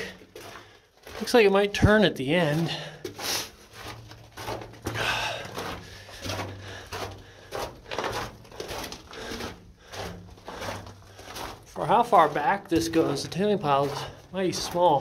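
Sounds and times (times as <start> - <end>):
footsteps on rocky floor: 0.0 - 15.0.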